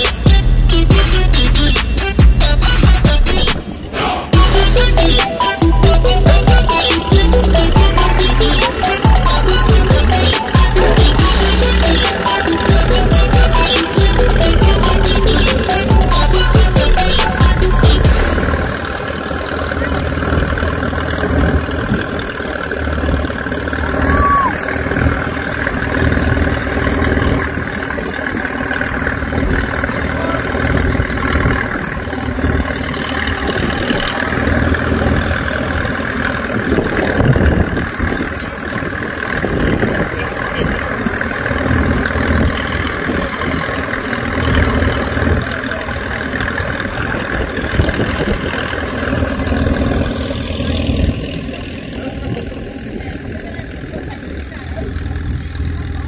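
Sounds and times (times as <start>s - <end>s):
tractor engine rumbling: 0.0s - 56.0s.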